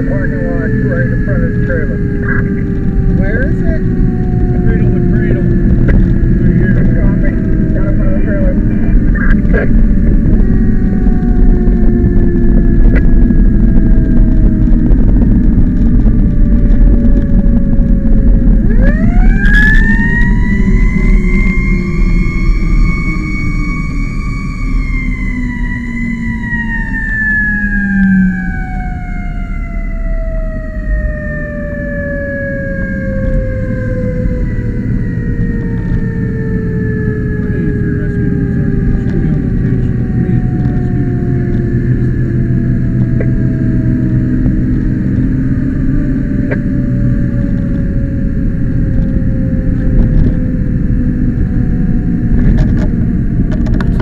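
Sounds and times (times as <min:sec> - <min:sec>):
fire truck siren winding down: 0:00.0 - 0:54.0
thin whine falling in pitch: 0:00.0 - 0:54.0
truck engine rumble: 0:00.0 - 0:54.0.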